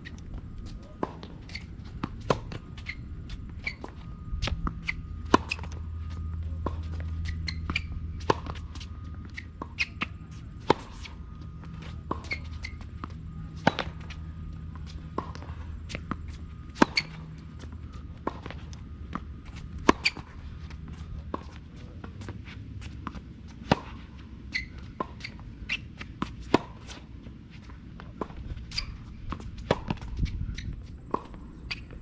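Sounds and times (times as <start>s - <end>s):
racket hitting tennis ball: 0.0s - 6.0s, 6.6s - 11.2s, 11.8s - 27.4s, 28.0s - 30.3s
low steady rumble: 0.0s - 32.0s.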